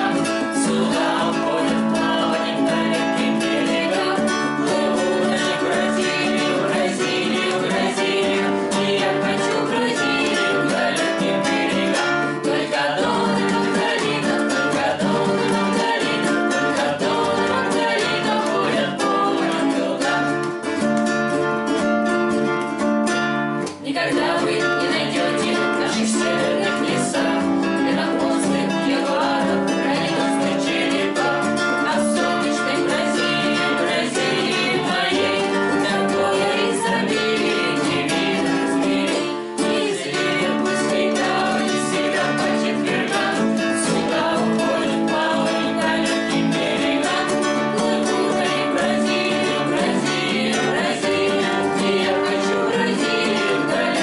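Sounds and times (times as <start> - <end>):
group singing: 0.0 - 21.7, 23.6 - 54.0
acoustic guitars strummed: 0.0 - 54.0.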